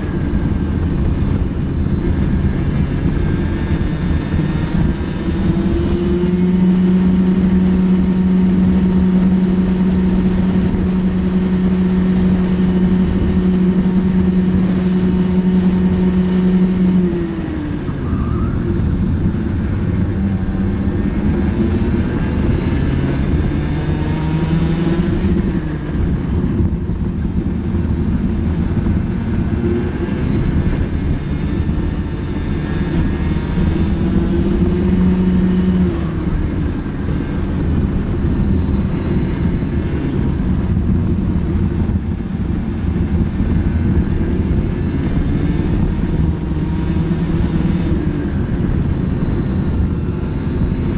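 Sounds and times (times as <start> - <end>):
racing kart engine revving: 0.0 - 50.9.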